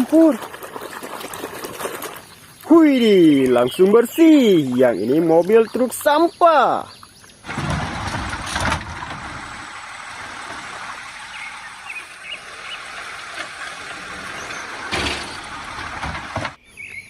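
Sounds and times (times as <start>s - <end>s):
water splash: 0.0s - 16.1s
water running: 0.0s - 16.6s.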